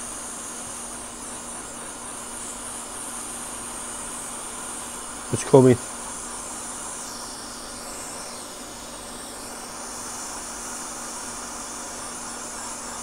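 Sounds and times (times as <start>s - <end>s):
hot air gun hissing: 0.0s - 13.0s.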